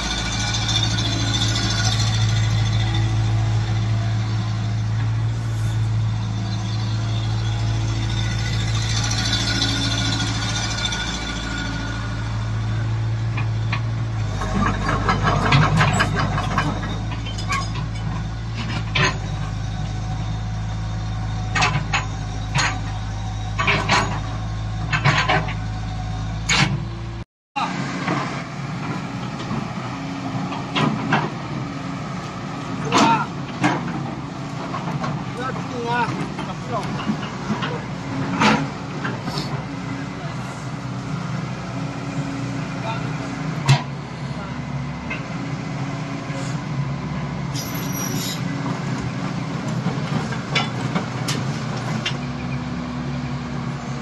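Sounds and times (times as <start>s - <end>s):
large engine humming: 0.0s - 54.0s.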